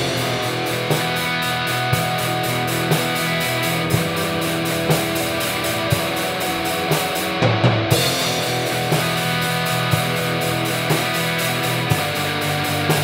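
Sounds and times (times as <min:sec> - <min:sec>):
bass guitar: 0:00.0 - 0:13.0
distorted electric guitars: 0:00.0 - 0:13.0
drum kit: 0:00.0 - 0:13.0.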